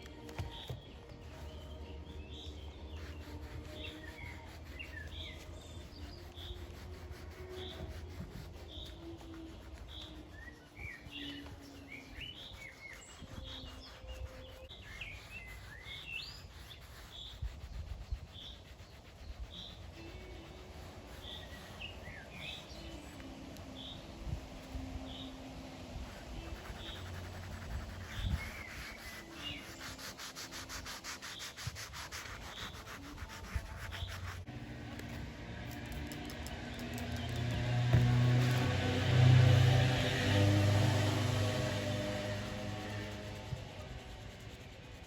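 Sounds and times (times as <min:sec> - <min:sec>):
birds chirping: 0:00.0 - 0:39.7.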